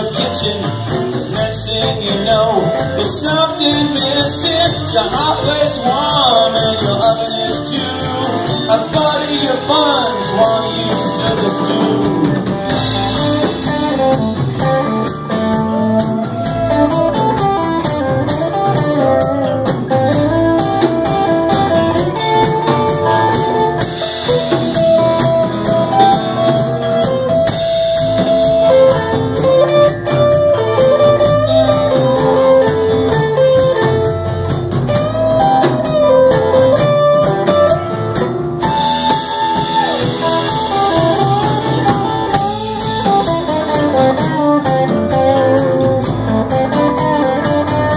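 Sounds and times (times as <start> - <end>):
drum kit: 0.0 - 47.9
electric bass: 0.0 - 47.9
electric guitar solo: 7.4 - 47.9.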